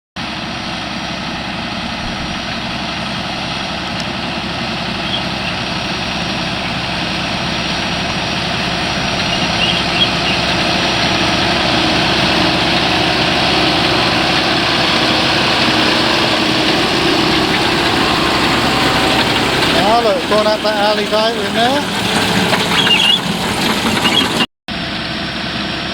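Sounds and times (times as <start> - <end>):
tractor engine running: 0.2 - 25.9
machinery noise: 0.4 - 25.9.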